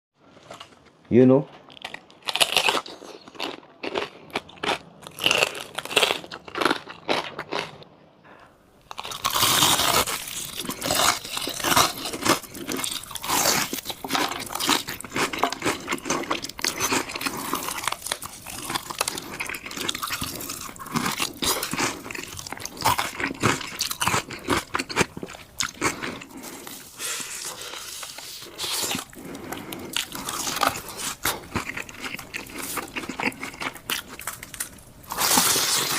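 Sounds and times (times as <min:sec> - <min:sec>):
crunching and chewing crisp food: 0:00.3 - 0:35.9.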